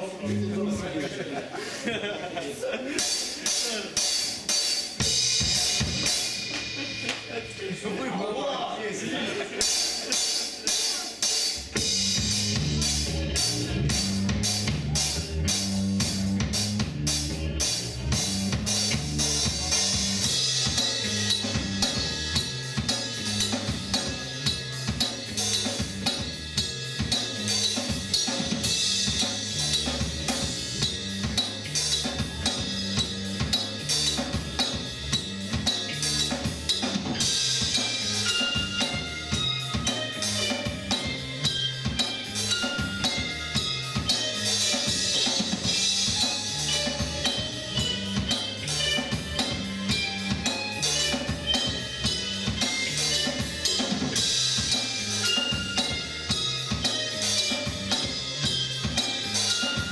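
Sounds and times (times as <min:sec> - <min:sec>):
rock band playing: 0:00.0 - 0:59.9
drum kit beat: 0:01.5 - 0:59.9
electric guitars: 0:02.9 - 0:07.7, 0:09.3 - 0:59.9.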